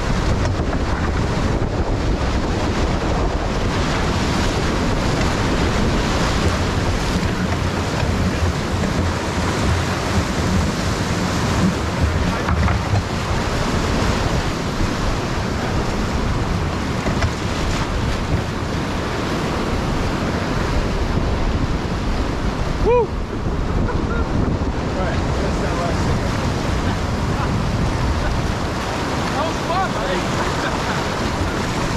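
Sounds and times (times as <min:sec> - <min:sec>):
whitewater rushing: 0:00.0 - 0:31.9
wind rumbling on microphone: 0:00.0 - 0:31.9.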